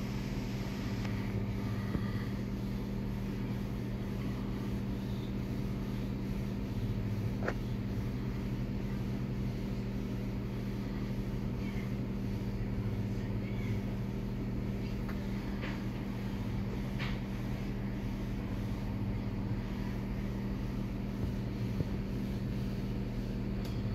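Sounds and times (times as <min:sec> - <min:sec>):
low two-tone machine hum: 0:00.0 - 0:23.9.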